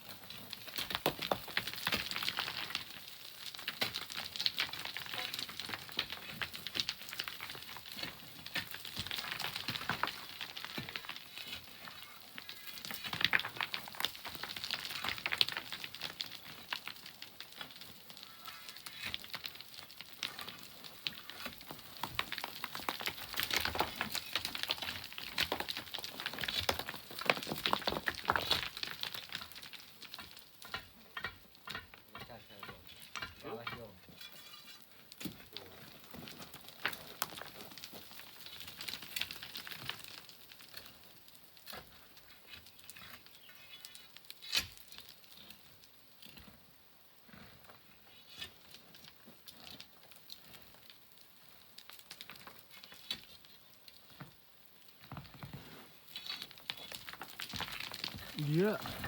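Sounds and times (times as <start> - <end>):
sand and pebbles trickling: 0.0 - 31.6, 32.3 - 59.0.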